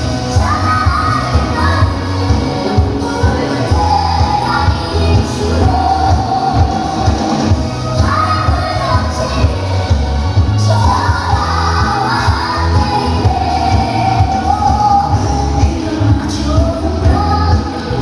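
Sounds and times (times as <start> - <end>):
pop song with singing: 0.0 - 18.0.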